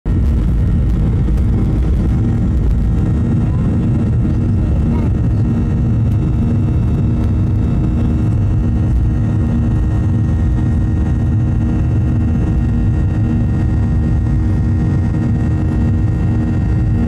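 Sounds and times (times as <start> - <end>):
jet engines rumbling in cabin: 0.1 - 17.0.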